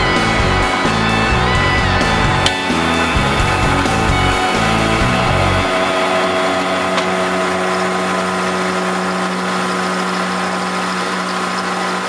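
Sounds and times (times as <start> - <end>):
milling machine cutting steel: 0.0 - 12.0.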